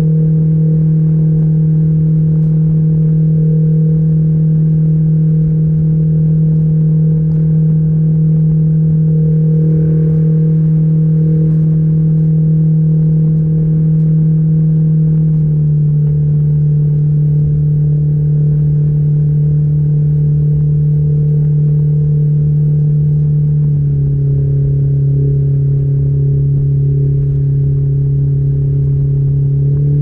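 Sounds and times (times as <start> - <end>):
low rumble: 0.0 - 30.0
outboard motor running: 0.0 - 30.0.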